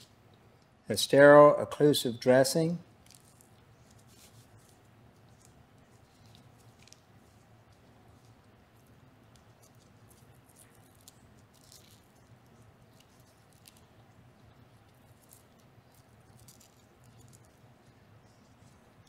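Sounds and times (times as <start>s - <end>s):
low steady hum: 0.0s - 19.0s
dressing crinkling: 3.0s - 19.0s.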